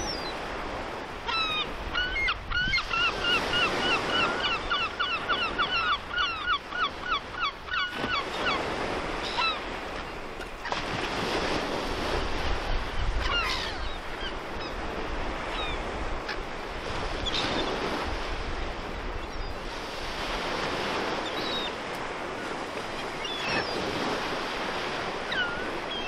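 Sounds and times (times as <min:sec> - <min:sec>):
wind: 0:00.0 - 0:26.0.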